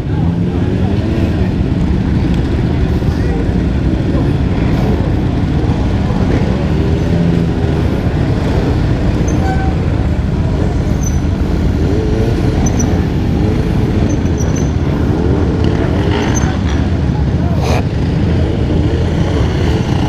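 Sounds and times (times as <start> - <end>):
dirt bike engines revving: 0.0 - 20.0
road and wind noise: 0.0 - 20.0.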